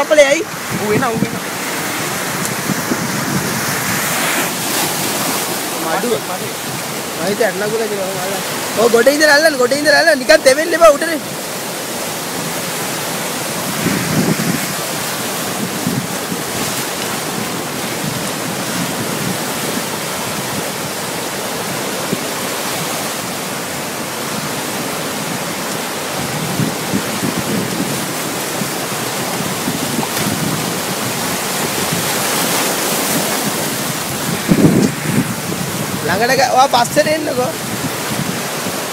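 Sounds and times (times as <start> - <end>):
wind noise on microphone: 0.0 - 7.6, 12.1 - 38.9
rushing water: 0.0 - 38.9.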